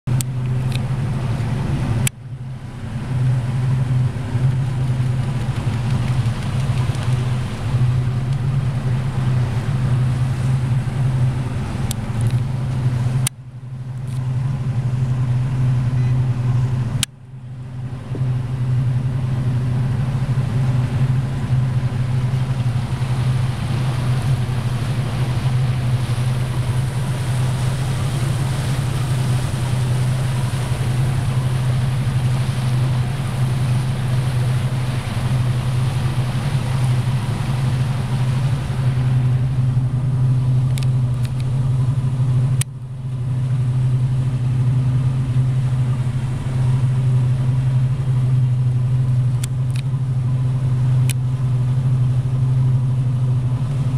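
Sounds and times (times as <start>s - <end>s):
motorboat engine drone: 0.0s - 53.9s
rush of wind and water: 0.0s - 53.9s.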